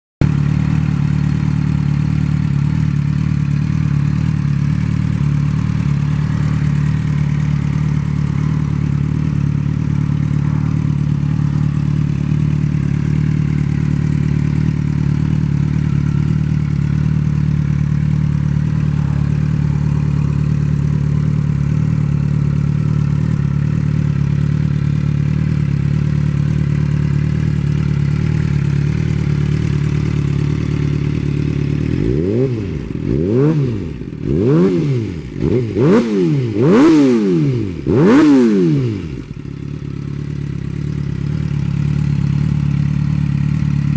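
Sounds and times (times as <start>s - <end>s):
motorcycle engine idling: 0.2s - 43.9s.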